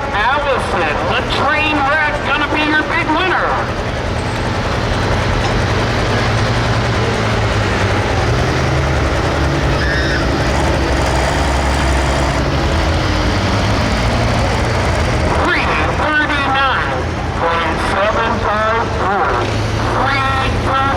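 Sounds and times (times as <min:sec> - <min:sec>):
tractor diesel engine under load: 0:00.0 - 0:20.9.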